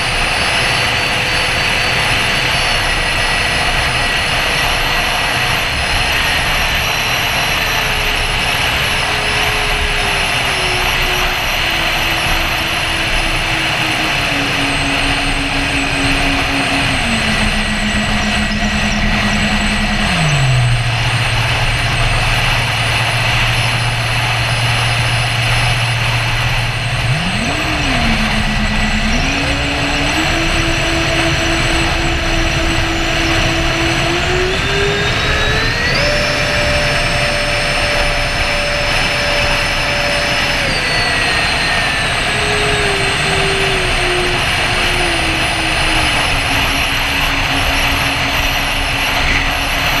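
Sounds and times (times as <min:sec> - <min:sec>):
electric fan whine: 0:00.0 - 0:50.0.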